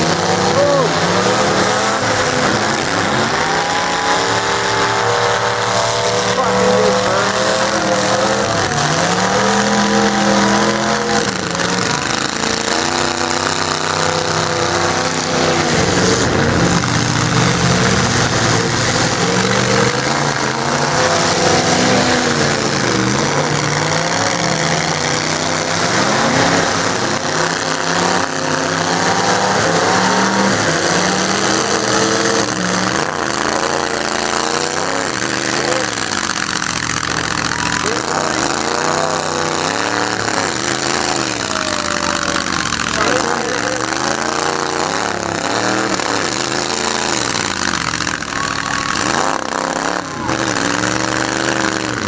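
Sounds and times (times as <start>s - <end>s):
truck engines revving: 0.0s - 52.0s.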